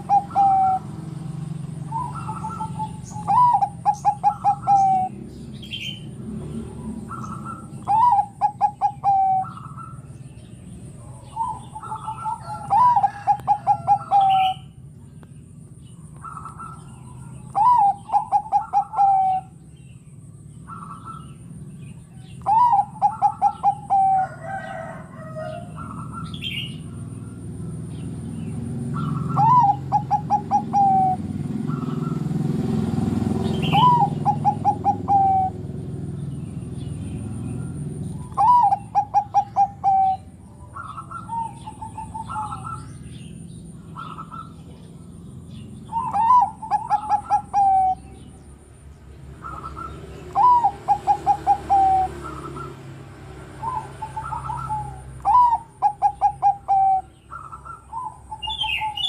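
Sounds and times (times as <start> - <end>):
dove cooing: 0.0 - 14.9, 16.0 - 48.5, 49.4 - 59.0
small birds chirping: 0.0 - 59.0.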